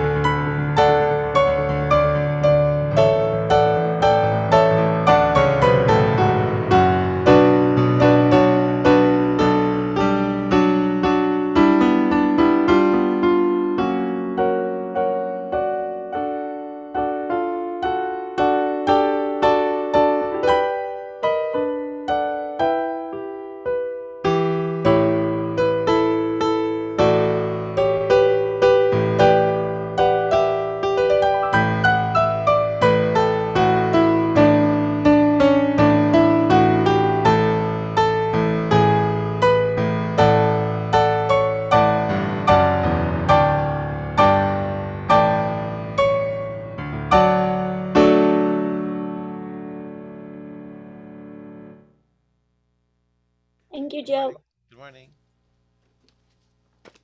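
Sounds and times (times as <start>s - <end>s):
solo piano chords: 0.0s - 51.9s.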